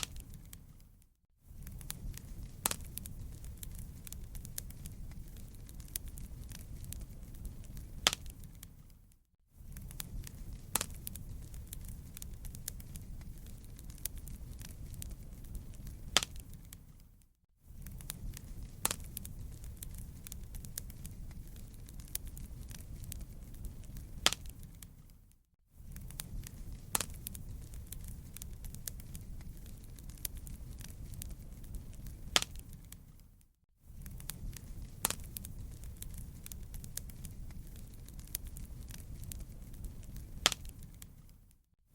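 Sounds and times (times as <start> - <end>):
low fire rumble: 0.0 - 41.6
wood fire crackling: 0.0 - 41.6.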